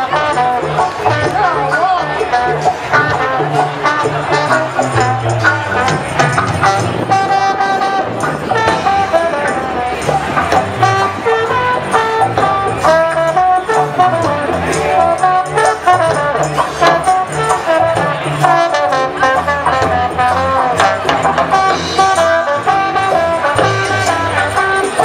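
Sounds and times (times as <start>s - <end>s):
drum kit: 0.0s - 25.0s
saxophone melody: 0.0s - 25.0s
sousaphone bass: 0.0s - 25.0s
trombone: 0.0s - 25.0s.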